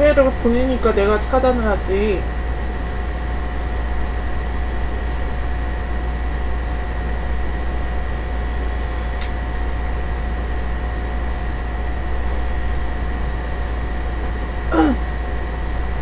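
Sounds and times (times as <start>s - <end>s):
faint constant whine: 0.0s - 16.0s
steady hum and hiss: 0.0s - 16.0s.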